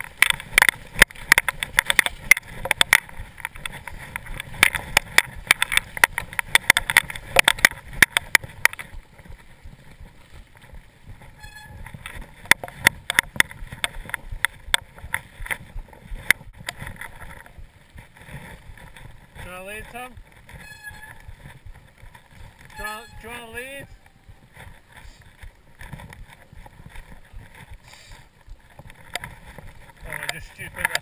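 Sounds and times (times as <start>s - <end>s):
mountain bike rattling on rough trail: 0.0s - 31.0s.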